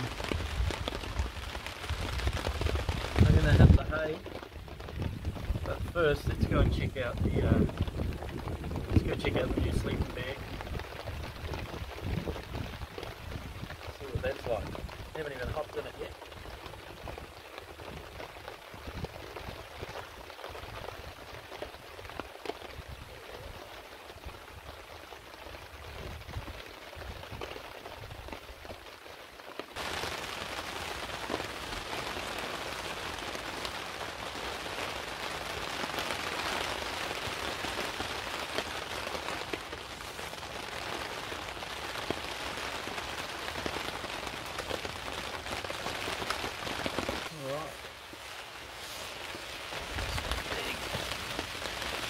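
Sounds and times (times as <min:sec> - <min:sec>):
heavy rain on a tarp: 0:00.0 - 0:52.0.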